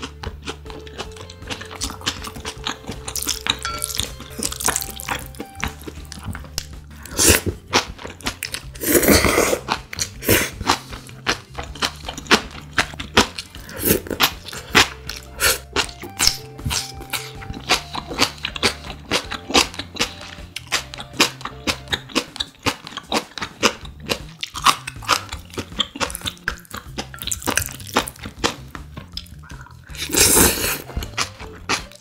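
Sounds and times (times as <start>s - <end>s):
crunching and chewing crisp food: 0.0s - 32.0s.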